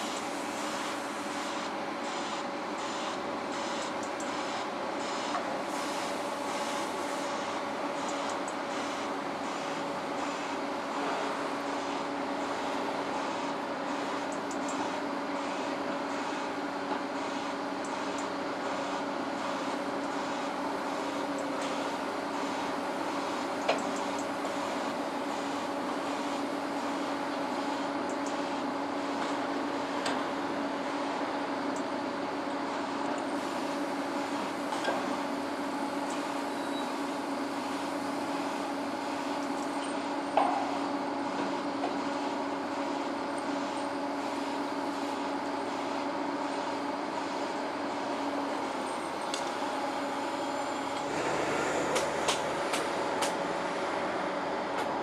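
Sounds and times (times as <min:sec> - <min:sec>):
heavy construction machinery humming: 0:00.0 - 0:55.0.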